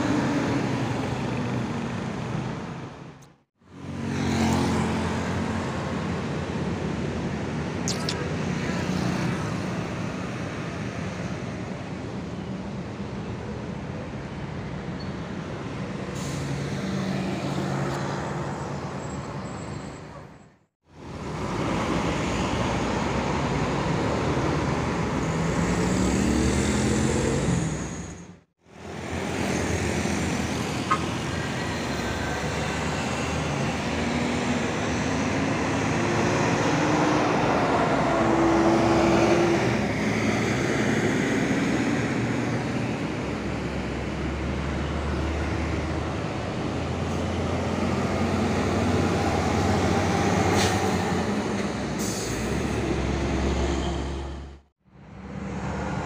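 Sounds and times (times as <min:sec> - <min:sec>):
buses accelerating: 0:00.0 - 0:56.0
road traffic: 0:00.0 - 0:56.0.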